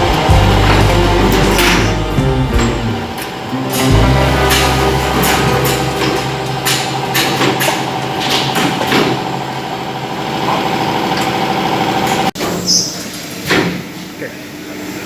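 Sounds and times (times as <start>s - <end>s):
sharp machine clacks: 0.0s - 12.3s
machine hum: 0.0s - 12.4s.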